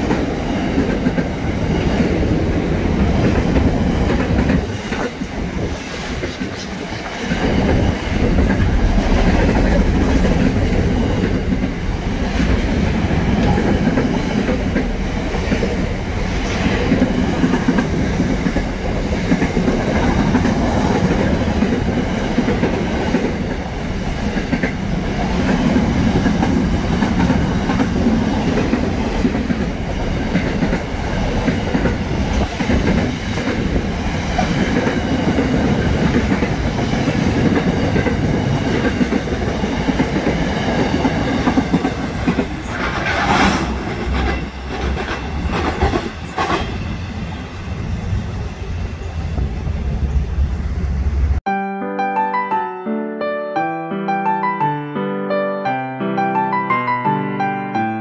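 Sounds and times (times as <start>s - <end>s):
train wheels rumbling on rails: 0.0s - 51.4s.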